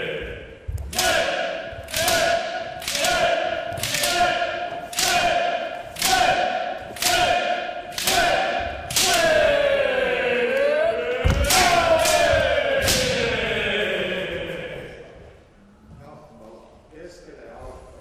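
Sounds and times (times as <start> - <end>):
group shouting kiai: 0.0 - 15.1.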